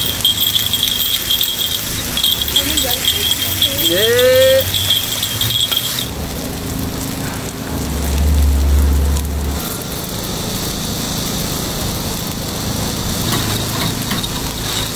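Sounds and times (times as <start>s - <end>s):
food sizzling on a griddle: 0.0s - 14.9s.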